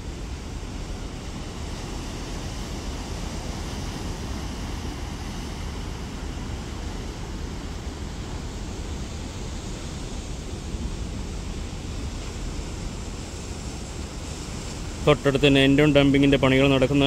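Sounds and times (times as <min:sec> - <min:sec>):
sea rushing: 0:00.0 - 0:17.0.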